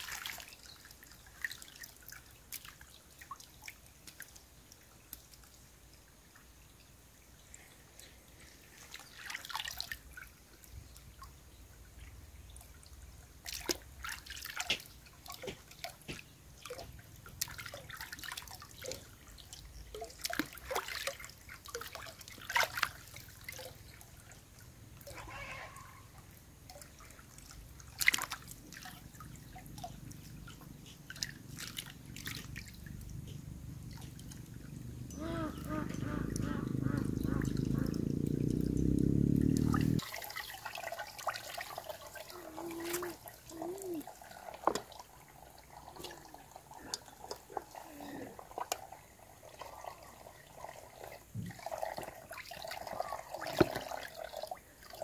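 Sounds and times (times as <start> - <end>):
water splashing in a basin: 0.0 - 6.4, 7.3 - 55.0
hose trickling water: 0.0 - 55.0.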